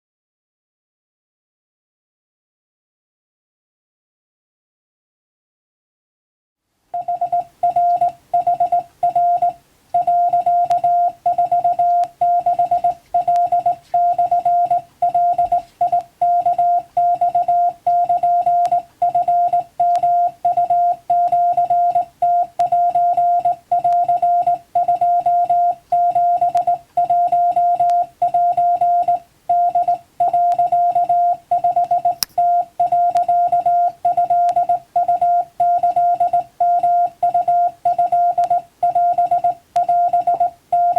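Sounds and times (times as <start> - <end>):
morse code beeps: 7.0 - 40.9.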